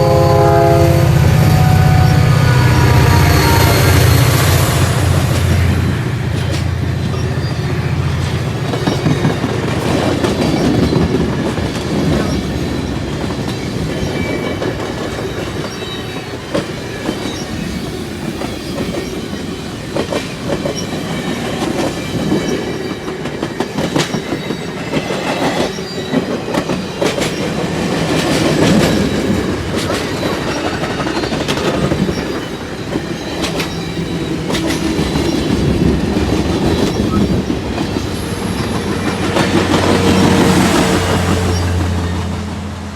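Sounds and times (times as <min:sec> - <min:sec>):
train wheels clicking over rail joints: 0:04.3 - 0:42.4.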